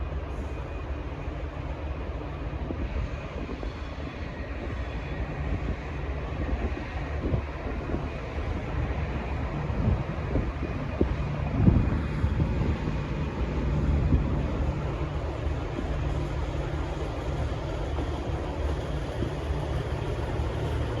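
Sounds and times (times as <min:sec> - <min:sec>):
diesel locomotive engine humming: 0:00.0 - 0:21.0
wind noise on microphone: 0:00.2 - 0:21.0.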